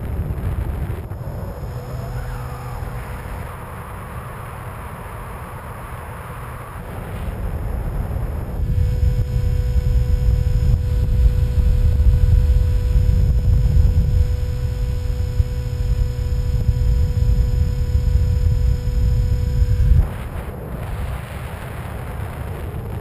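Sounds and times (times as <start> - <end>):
wind buffeting microphone: 0.0 - 4.7, 6.8 - 23.0
electric motor whine: 0.0 - 21.4.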